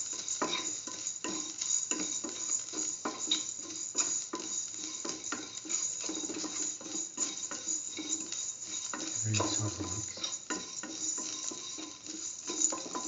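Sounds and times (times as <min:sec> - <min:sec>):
light sizzle of frying: 0:00.0 - 0:13.0.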